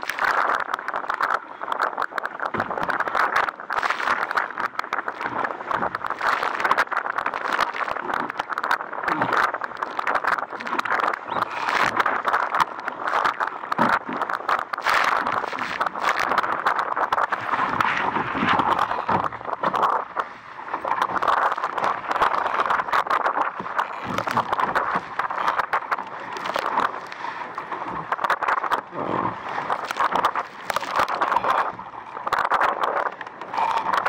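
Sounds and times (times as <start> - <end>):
water splashing against hull: 0.0 - 34.0.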